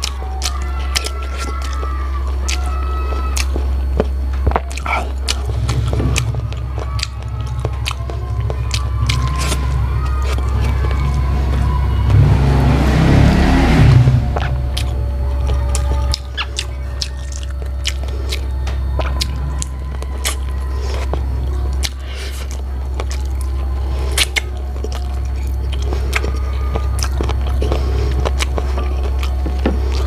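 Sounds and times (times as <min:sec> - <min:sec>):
chewing with wet mouth clicks: 0:00.0 - 0:12.1, 0:14.4 - 0:30.0
low hum: 0:00.0 - 0:30.0.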